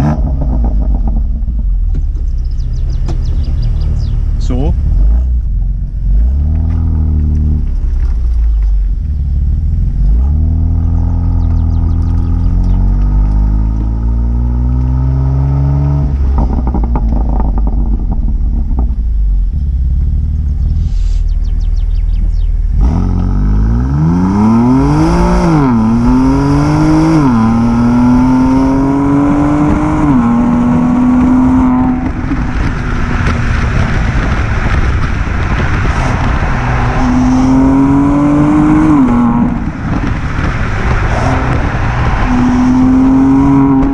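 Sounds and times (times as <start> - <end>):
car engine revving and accelerating: 0.0 - 43.9.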